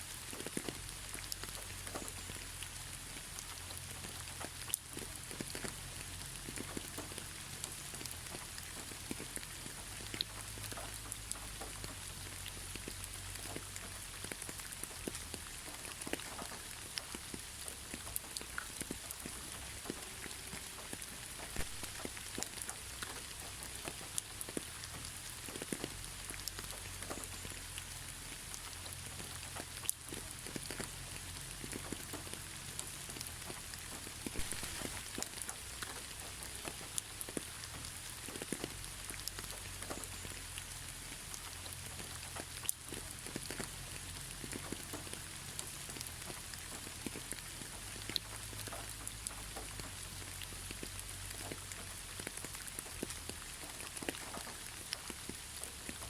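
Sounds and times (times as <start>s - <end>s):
raindrops striking surface: 0.0s - 56.0s
rain hissing: 0.1s - 56.0s.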